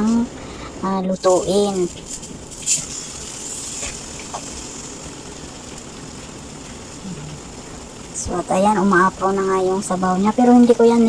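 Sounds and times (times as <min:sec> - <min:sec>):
sauce bubbling in a pan: 0:00.1 - 0:10.9.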